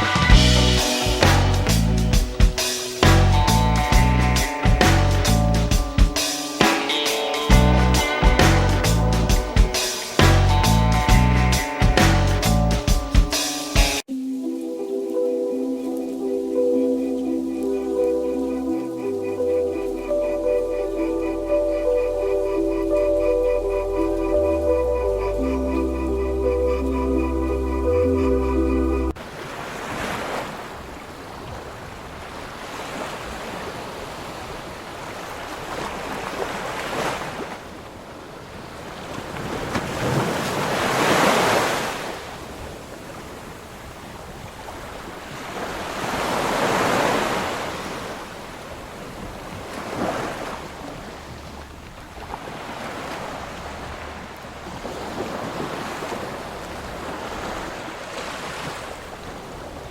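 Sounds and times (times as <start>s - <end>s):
ocean waves washing in: 0.0s - 59.9s.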